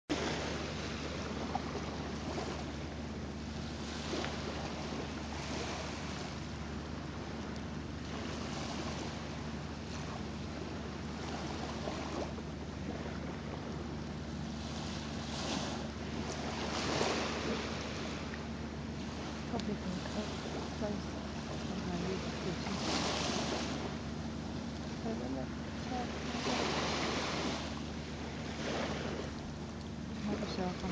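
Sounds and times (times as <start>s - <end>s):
steady low hum: 0.1s - 30.9s
waves lapping on sand: 0.1s - 30.9s.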